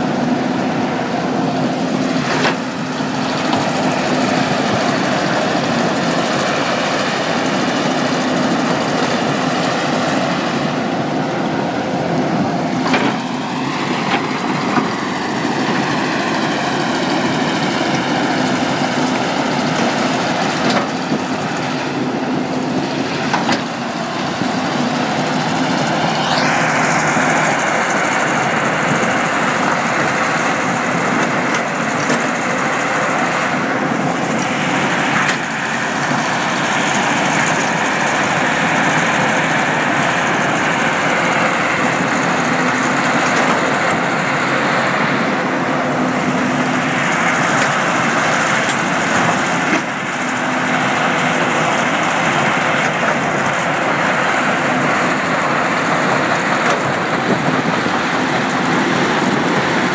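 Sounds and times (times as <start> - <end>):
excavator diesel engine and hydraulics: 0.0 - 59.9
mobile crusher running: 0.0 - 59.9.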